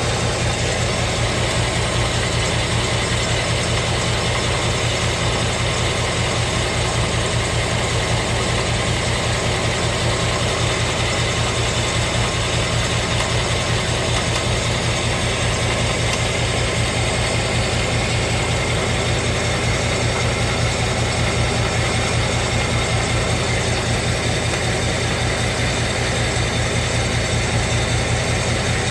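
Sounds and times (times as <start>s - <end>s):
car engine idling with ticking: 0.0s - 28.9s.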